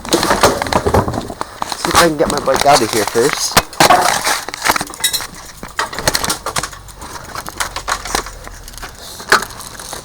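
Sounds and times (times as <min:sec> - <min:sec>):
bicycle knocking and rattling: 0:00.0 - 0:10.0.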